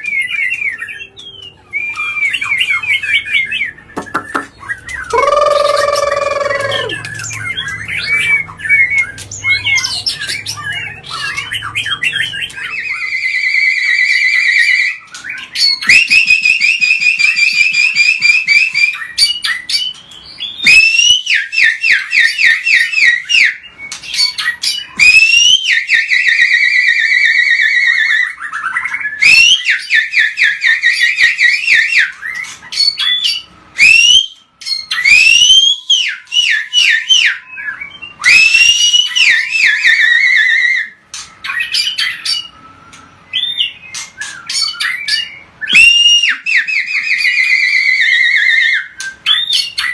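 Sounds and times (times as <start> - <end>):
bird singing trills and whistles: 0.0 - 49.9.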